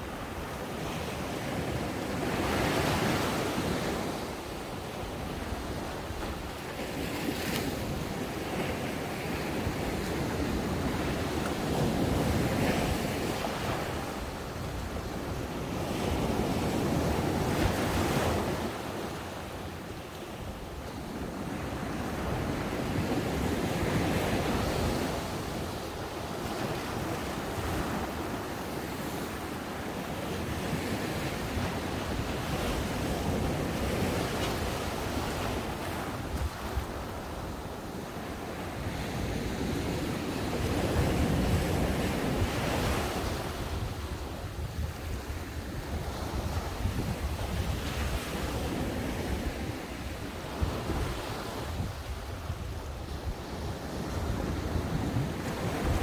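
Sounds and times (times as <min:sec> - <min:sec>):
ocean waves breaking on beach: 0:00.0 - 0:56.0
wind on microphone: 0:00.0 - 0:56.0.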